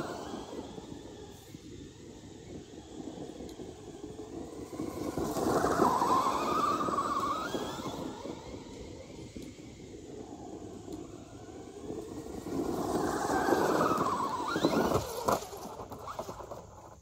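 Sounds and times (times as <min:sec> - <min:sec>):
electric motor whine: 0:00.0 - 0:17.0
tyres rushing over dirt: 0:00.0 - 0:17.0.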